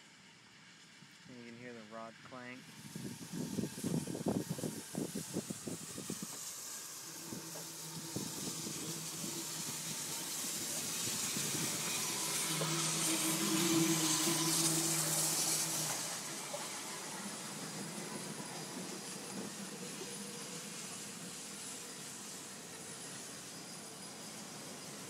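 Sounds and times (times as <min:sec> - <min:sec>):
steam hissing: 0:02.4 - 0:25.0.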